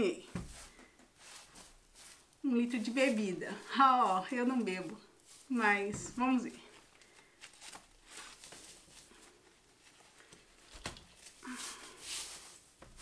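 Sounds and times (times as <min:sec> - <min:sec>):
fabric gift bag rustling: 0:00.4 - 0:13.0.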